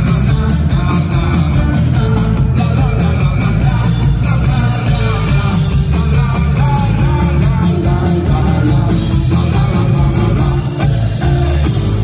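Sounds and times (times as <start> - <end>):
drum kit: 0.0 - 12.0
electric bass: 0.0 - 12.0
person singing: 0.0 - 12.0.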